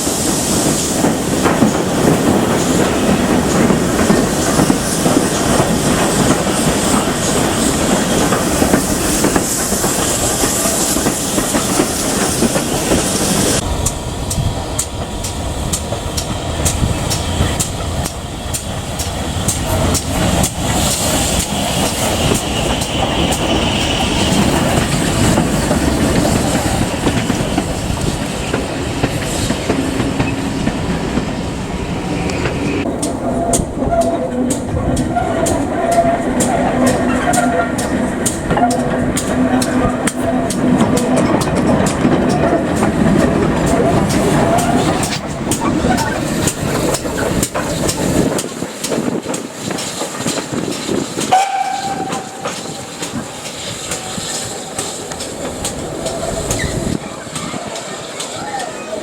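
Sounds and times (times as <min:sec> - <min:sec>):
steam hiss: 0:00.0 - 0:59.0
steam train running: 0:00.0 - 0:59.0
wheels clattering over rail joints: 0:00.0 - 0:59.0.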